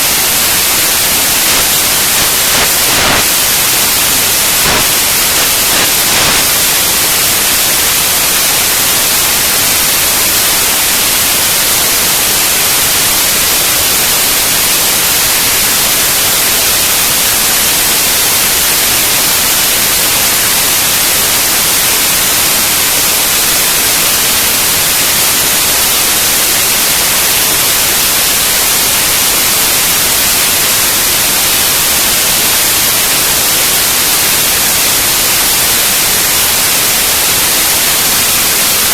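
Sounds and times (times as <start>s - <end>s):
loud static-like hiss: 0.0s - 38.9s.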